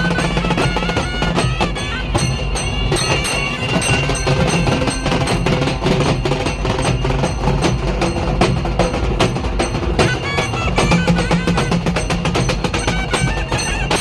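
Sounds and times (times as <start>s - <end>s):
frame drums beaten with sticks: 0.0s - 14.0s.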